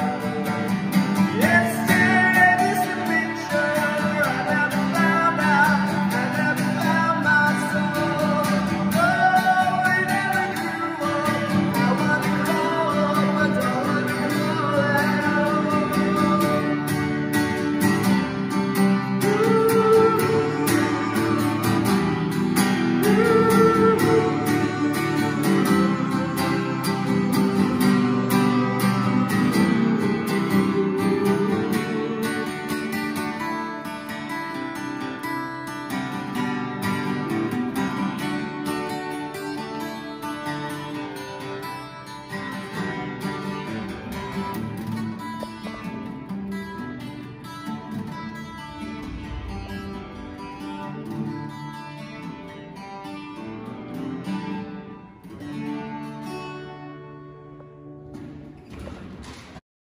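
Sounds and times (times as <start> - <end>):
acoustic guitar with reverb: 0.0 - 59.6.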